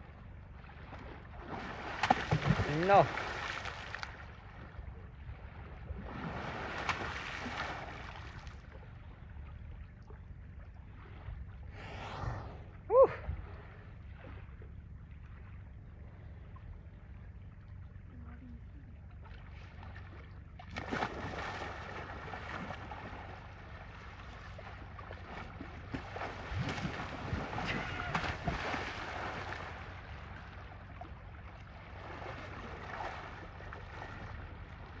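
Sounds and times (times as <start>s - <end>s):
wind rumble on microphone: 0.0s - 19.0s, 20.9s - 35.0s
water splashing and sloshing: 0.0s - 35.0s.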